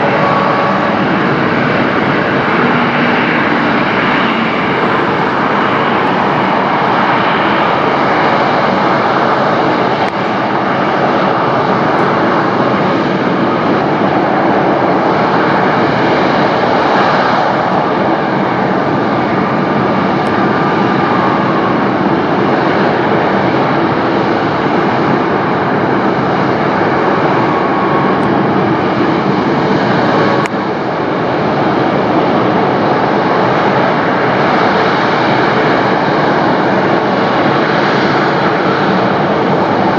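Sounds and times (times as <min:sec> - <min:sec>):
jet engines at takeoff: 0:00.0 - 0:39.9.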